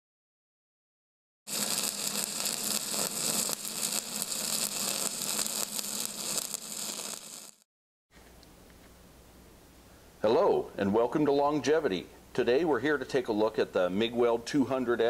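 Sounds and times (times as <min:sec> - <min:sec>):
crackling static hiss: 0:01.5 - 0:07.6, 0:08.2 - 0:15.0.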